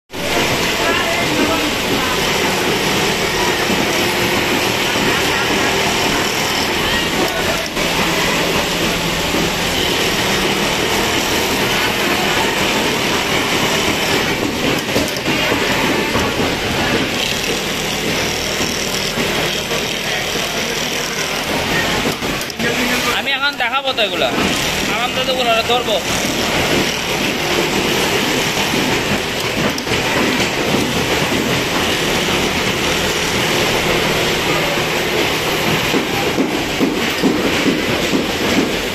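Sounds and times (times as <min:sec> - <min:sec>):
sewing machine stitching: 0:00.1 - 0:38.9.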